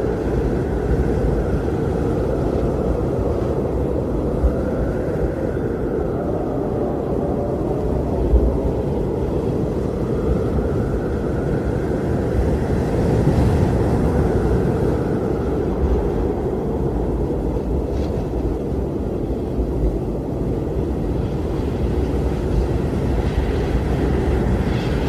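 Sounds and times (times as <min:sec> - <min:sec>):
blizzard wind howling: 0:00.0 - 0:25.0.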